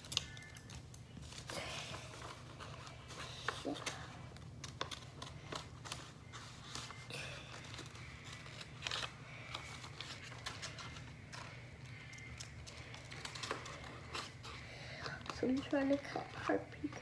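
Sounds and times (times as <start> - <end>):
paper rustling: 0.0 - 17.0.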